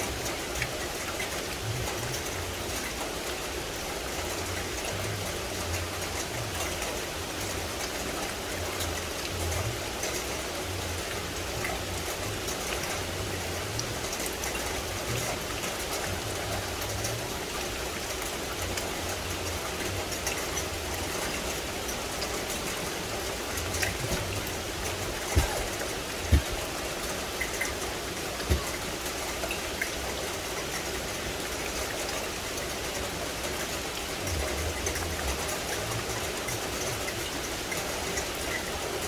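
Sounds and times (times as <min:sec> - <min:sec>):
rain falling in forest: 0:00.0 - 0:39.0.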